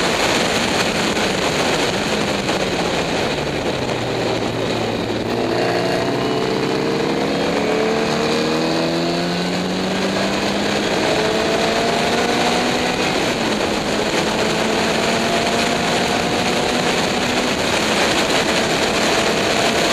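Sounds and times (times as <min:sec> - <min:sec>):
racing car engine accelerating: 0:00.0 - 0:19.9
wind and road rush: 0:00.0 - 0:19.9.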